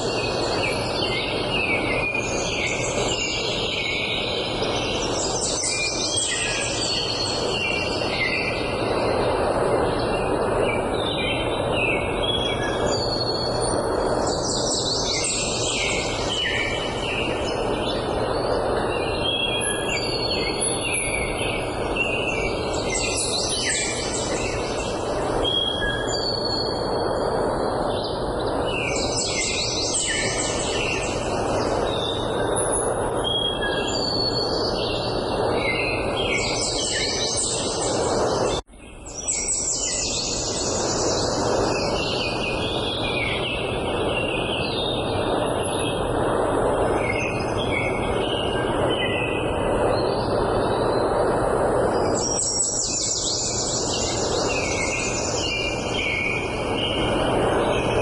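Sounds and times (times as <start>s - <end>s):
songbirds chirping and trilling: 0.0s - 58.0s
steady rushing noise: 0.0s - 58.0s.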